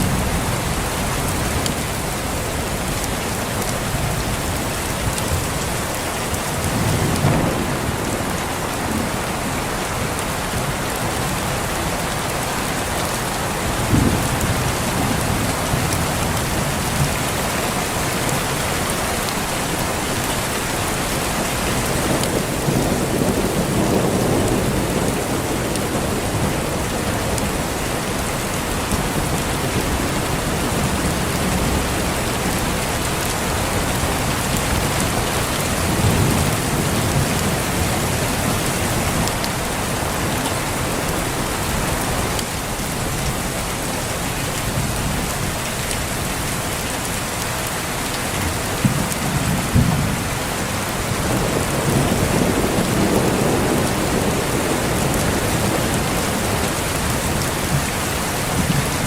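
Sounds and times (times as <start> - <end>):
thunder rumbling: 0.0 - 43.3, 48.4 - 59.0
heavy rain: 0.0 - 59.0.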